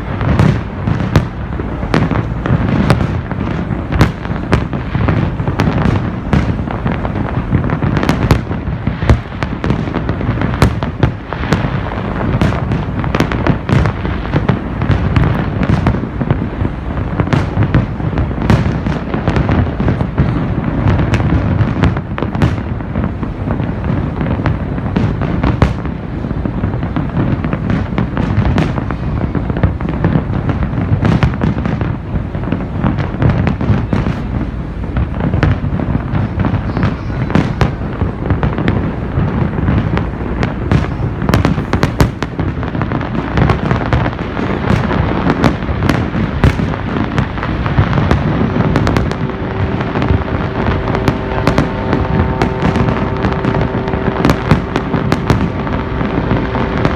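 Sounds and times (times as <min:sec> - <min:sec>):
fireworks bangs and crackles: 0:00.0 - 0:56.9
fireworks booms: 0:00.0 - 0:56.9.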